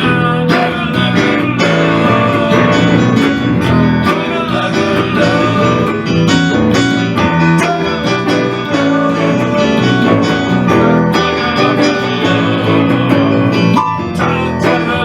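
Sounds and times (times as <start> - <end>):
strummed guitar: 0.0 - 15.0.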